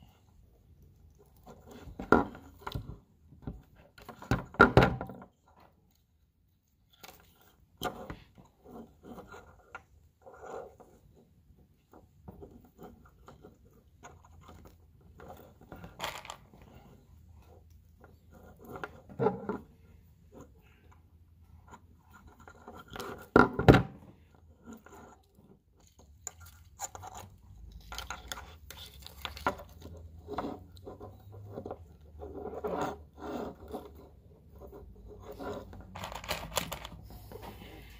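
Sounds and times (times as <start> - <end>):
wires and connectors rustling: 5.2 - 37.9.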